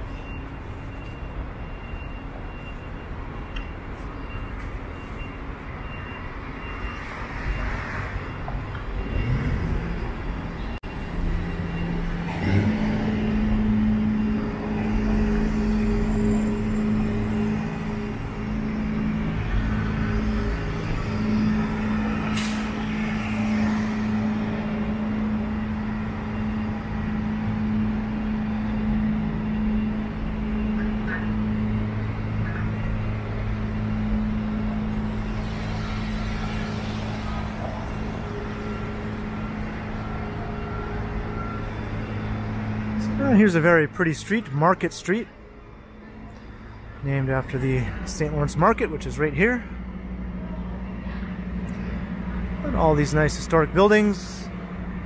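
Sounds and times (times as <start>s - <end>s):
city street traffic: 0.0s - 55.0s
heavy vehicle engine humming: 0.0s - 55.0s.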